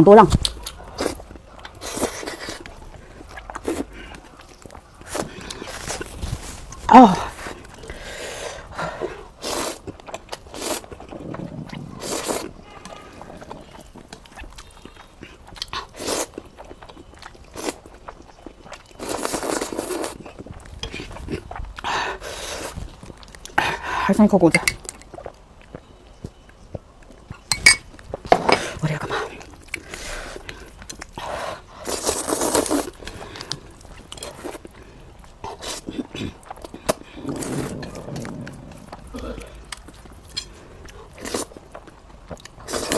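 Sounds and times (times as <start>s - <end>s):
person chewing: 0.3s - 23.9s, 24.6s - 42.9s
noodle slurping: 0.4s - 16.4s, 18.9s - 23.8s, 28.5s - 42.9s.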